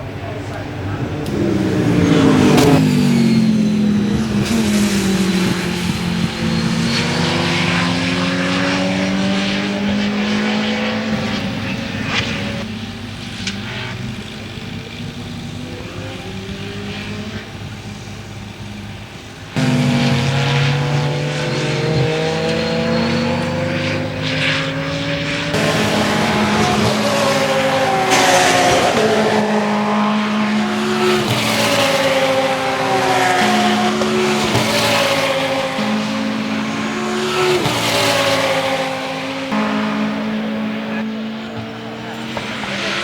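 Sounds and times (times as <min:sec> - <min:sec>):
race car engine accelerating: 0:00.0 - 0:43.0.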